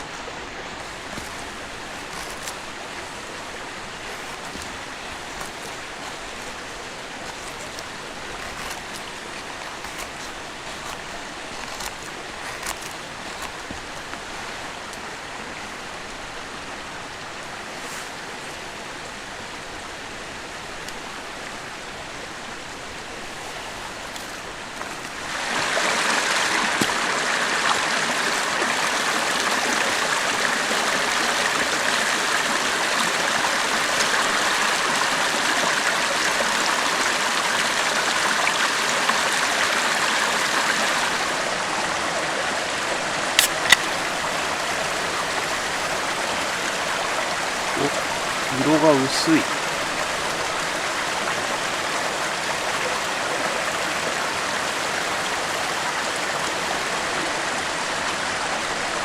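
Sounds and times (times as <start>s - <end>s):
stream rushing water: 0.0s - 59.0s.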